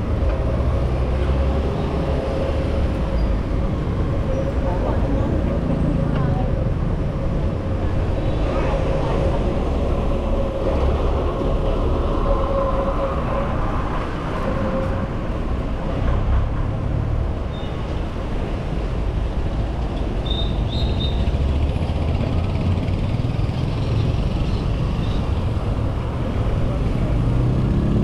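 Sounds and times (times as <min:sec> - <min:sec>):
wind buffeting microphone: 0:00.0 - 0:27.7
engine-like hum: 0:00.0 - 0:28.0
motor traffic rumble: 0:00.0 - 0:28.0.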